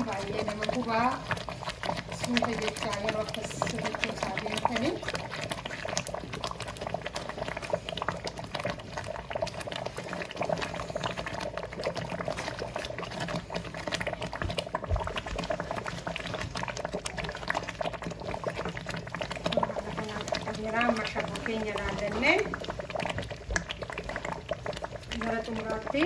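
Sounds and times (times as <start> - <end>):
stew bubbling in a pot: 0.0 - 26.0.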